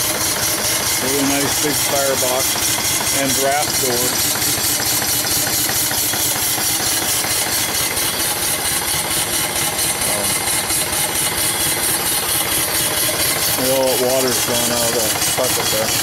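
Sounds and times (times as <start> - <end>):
steam engine beat: 0.0 - 16.0.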